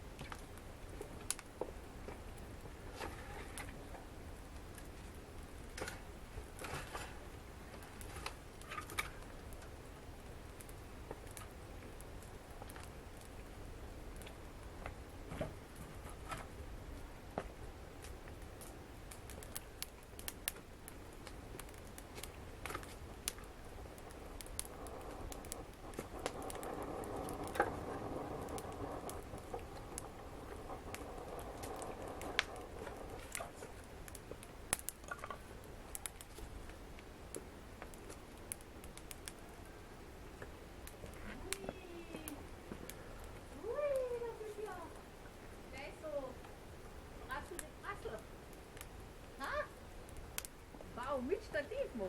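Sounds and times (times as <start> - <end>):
faint low rumble: 0.0 - 52.0
hiss of flames: 0.0 - 52.0
wood fire crackling: 0.0 - 52.0.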